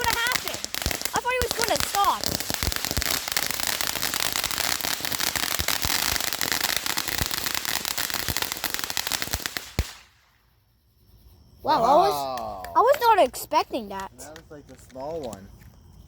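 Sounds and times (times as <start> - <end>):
firework crackling and popping: 0.0 - 10.6, 12.0 - 15.6.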